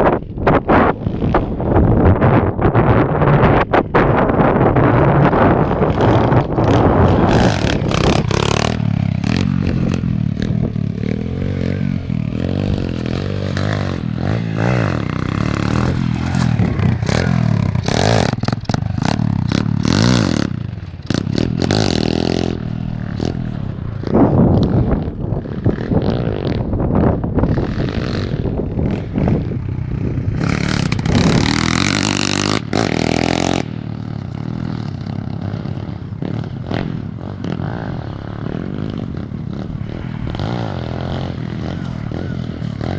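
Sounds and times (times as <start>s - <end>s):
small motorbike engine revving: 5.0s - 42.9s.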